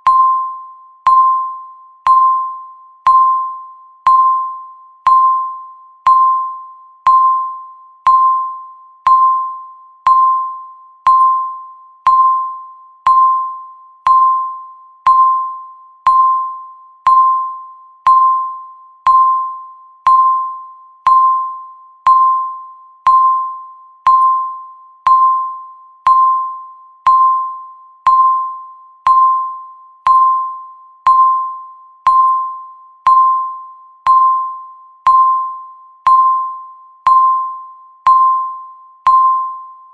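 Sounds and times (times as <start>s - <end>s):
timer electronic beep: 0.0s - 39.9s.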